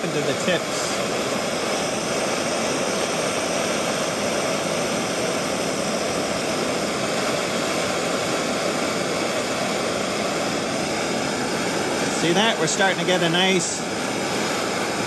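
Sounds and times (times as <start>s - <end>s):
gas torch burning: 0.0s - 15.0s.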